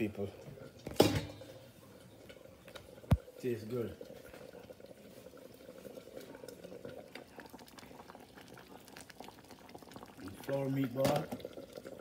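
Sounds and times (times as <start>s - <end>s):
food bubbling in pots: 0.0s - 12.0s.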